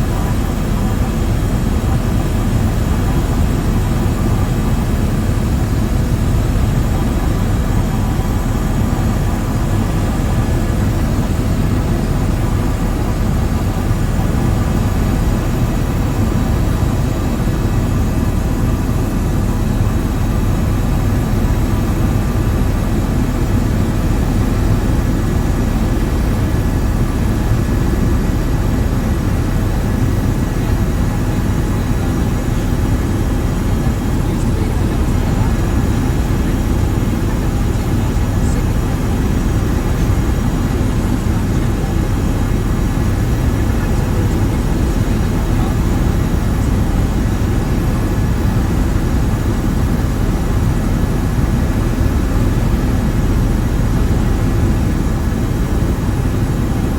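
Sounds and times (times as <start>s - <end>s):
light aircraft engine drone: 0.0s - 56.9s.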